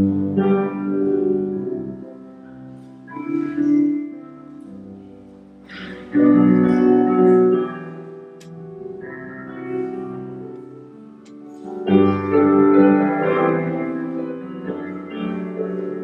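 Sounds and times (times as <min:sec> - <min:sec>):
keyboard playing slow chords: 0:00.0 - 0:16.0.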